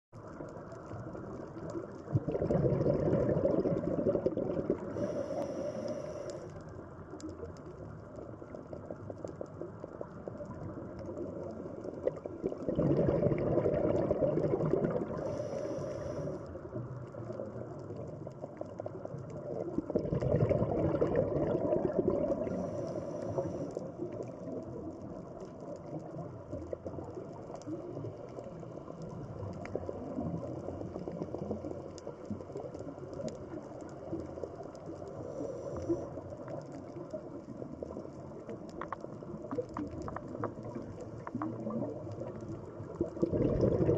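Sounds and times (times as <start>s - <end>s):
underwater wash: 0.1s - 43.9s
exhaled bubbles through regulator: 0.2s - 6.6s, 7.3s - 43.9s.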